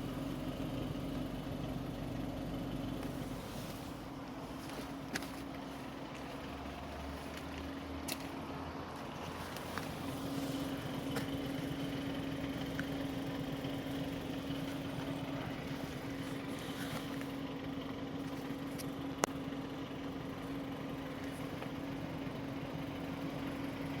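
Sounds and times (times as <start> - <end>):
constant hum: 0.0 - 24.0.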